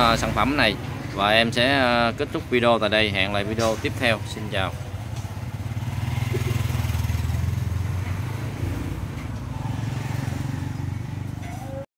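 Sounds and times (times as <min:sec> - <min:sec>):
engine rumbling: 0:00.0 - 0:11.9.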